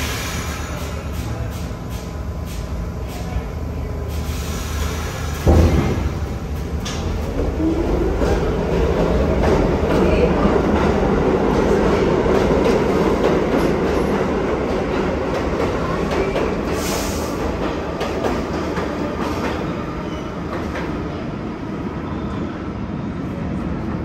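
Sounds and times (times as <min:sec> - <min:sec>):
subway train rumble: 0:00.0 - 0:24.0.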